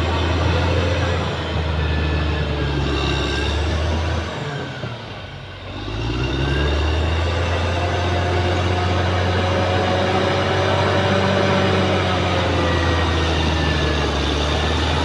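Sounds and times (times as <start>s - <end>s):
bulldozer diesel engine working: 0.0s - 15.0s.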